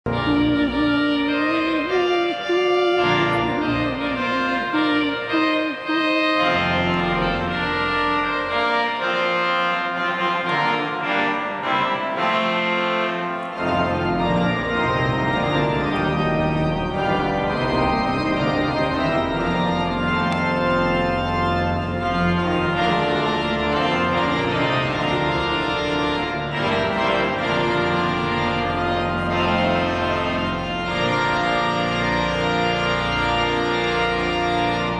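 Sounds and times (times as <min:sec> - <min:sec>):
pipe organ chords: 0:00.0 - 0:34.9
deep organ pedal bass: 0:00.1 - 0:34.9.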